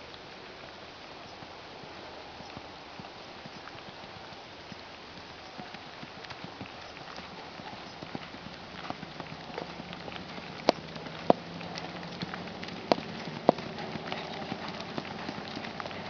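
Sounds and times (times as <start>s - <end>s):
horse hoofbeats: 2.4s - 16.0s.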